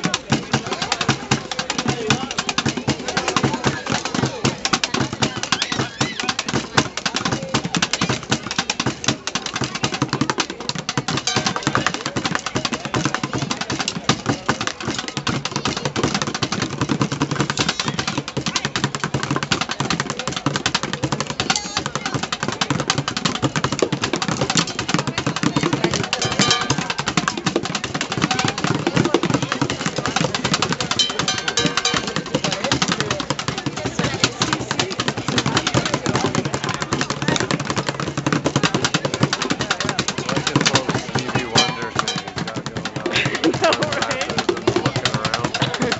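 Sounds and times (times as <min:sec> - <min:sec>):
bucket drumming: 0:00.0 - 0:45.9.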